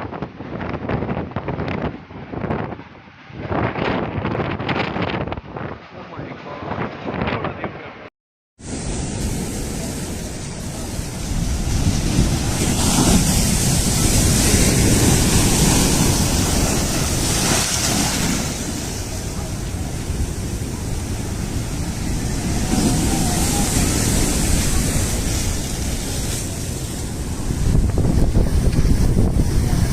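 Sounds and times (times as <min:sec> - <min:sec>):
wind roaring and buffeting: 0:00.0 - 0:29.9.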